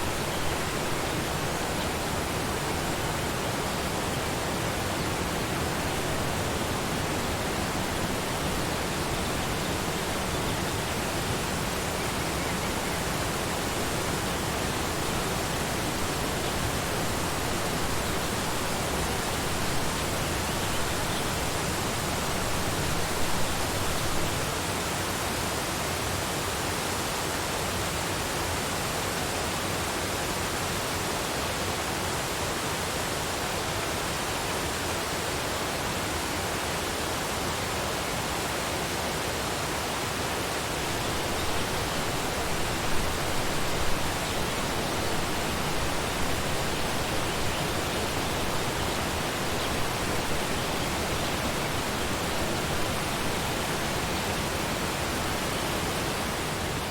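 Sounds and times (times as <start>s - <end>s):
waterfall rushing: 0.0s - 25.1s, 35.6s - 56.9s.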